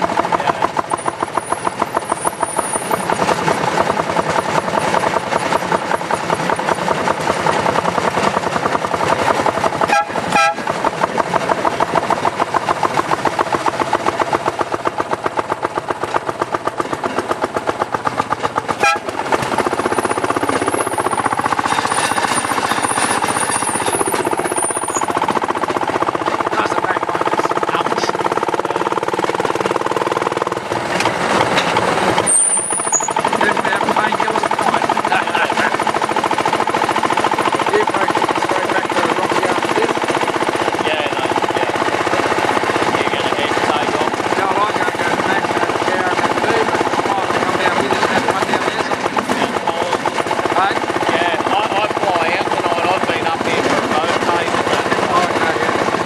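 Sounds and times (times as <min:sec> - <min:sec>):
small engine pulsing: 0:00.0 - 0:56.0
steel wheels on rail: 0:00.0 - 0:56.0.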